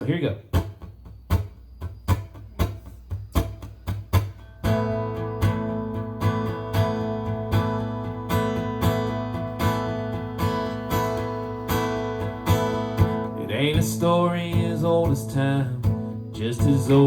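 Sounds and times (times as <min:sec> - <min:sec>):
acoustic guitar strumming: 0:00.4 - 0:17.0.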